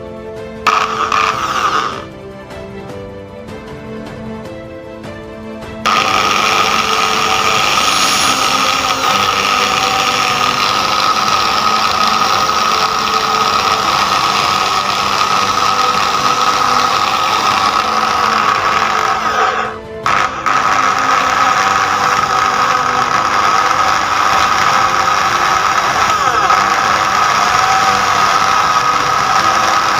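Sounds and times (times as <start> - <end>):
background music with a beat: 0.0 - 26.0
electric drill boring into metal: 0.7 - 2.1, 5.9 - 29.9.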